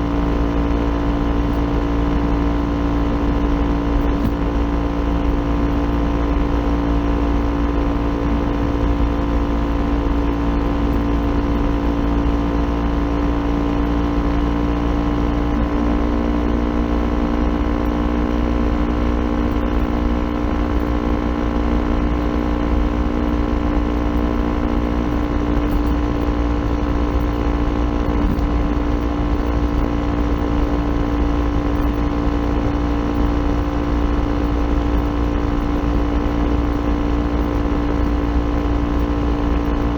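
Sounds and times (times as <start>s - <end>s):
motorcycle engine cruising: 0.0s - 39.9s
wind and road noise rumble: 0.0s - 39.9s.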